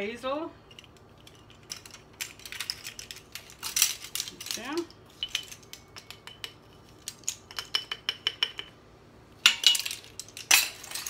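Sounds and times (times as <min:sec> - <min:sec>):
jar rattling: 0:00.6 - 0:08.8, 0:09.5 - 0:11.0.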